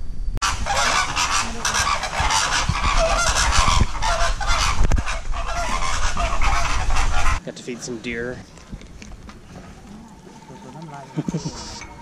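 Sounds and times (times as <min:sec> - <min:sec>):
flock of birds honking: 0:00.4 - 0:08.2, 0:09.5 - 0:12.0.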